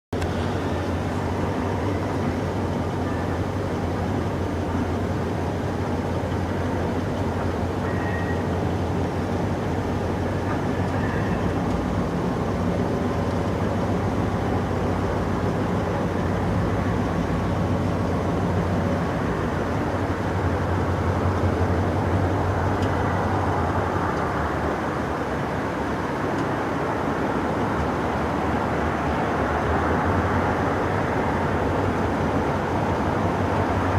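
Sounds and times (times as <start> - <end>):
low engine drone: 0.1 - 33.9.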